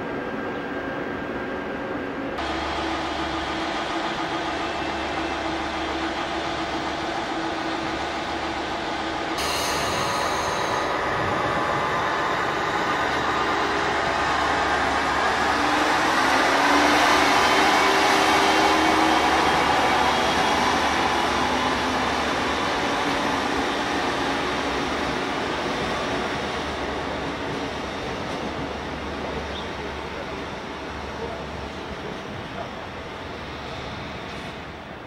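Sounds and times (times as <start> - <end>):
diesel train passing: 0.0 - 35.0.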